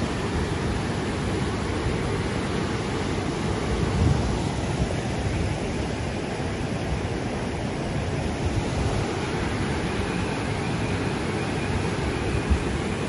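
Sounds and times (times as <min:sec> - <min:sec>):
floodwater rushing: 0:00.0 - 0:13.0
wind gusting on microphone: 0:00.0 - 0:13.0.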